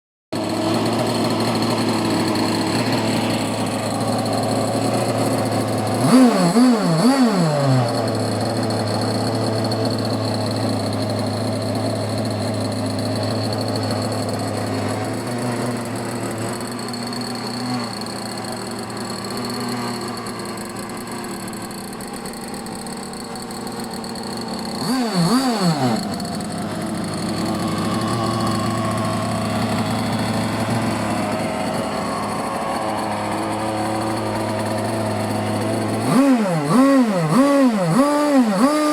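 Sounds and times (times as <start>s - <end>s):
boat engine idling: 0.4s - 38.9s
engine throttle blips: 0.4s - 38.9s.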